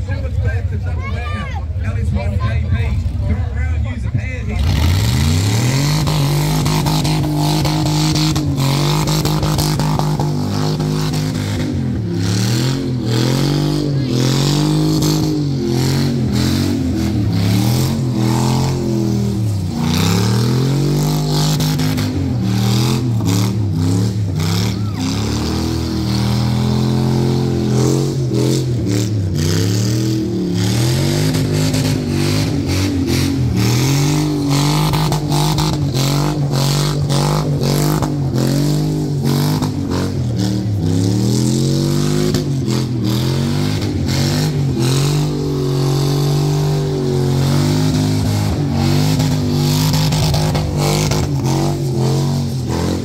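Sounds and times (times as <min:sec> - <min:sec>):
car engine revving hard: 0:04.2 - 0:53.0.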